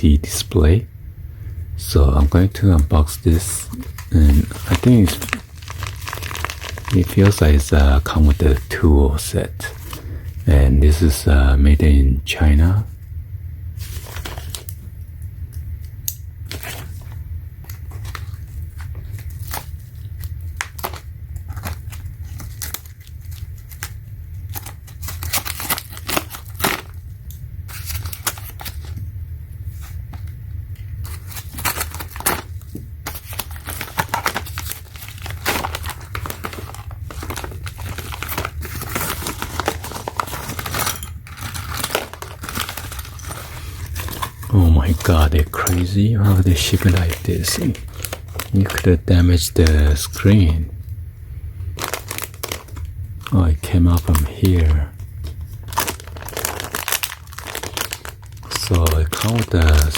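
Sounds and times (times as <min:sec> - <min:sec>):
steady low hum: 0:00.0 - 0:59.9
plastic packaging tearing and crinkling: 0:03.0 - 0:10.1, 0:13.8 - 0:14.8, 0:16.5 - 0:29.0, 0:31.0 - 0:50.6, 0:51.8 - 0:59.9.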